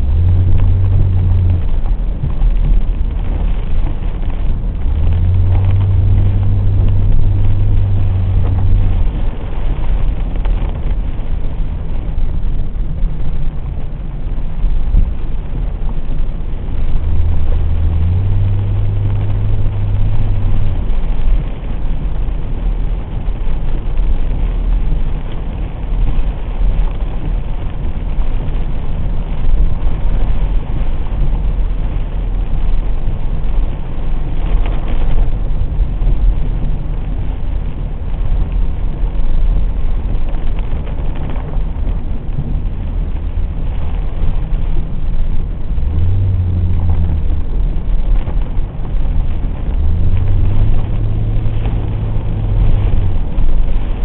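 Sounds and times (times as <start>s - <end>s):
car engine rumble: 0.0s - 54.0s
tyre and road noise: 0.0s - 54.0s.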